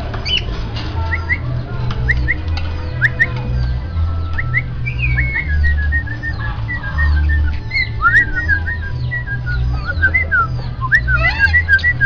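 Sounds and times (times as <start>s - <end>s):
low pulsing bass: 0.0s - 12.0s
songbirds whistling and chirping: 0.0s - 12.0s.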